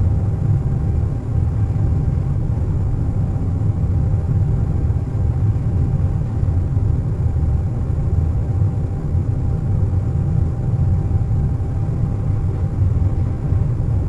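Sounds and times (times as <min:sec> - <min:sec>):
airliner cabin low rumble: 0:00.0 - 0:14.0.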